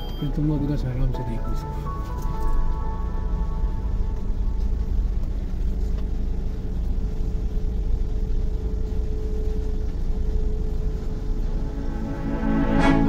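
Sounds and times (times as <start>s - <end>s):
car engine and tyre rumble: 0.1s - 13.0s.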